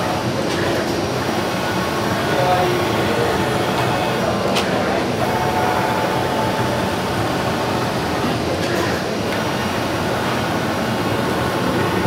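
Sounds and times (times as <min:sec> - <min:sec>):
cutting machine hum: 0:00.8 - 0:12.0.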